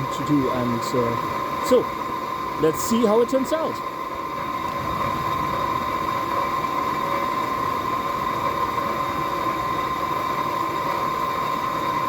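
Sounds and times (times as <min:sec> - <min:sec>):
steady high hum: 0:00.0 - 0:12.0.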